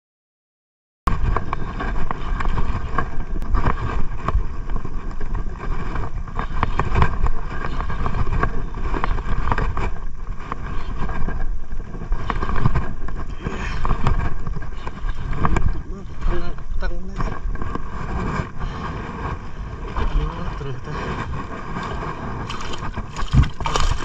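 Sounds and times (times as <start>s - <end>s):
wind buffeting microphone: 1.1s - 24.0s.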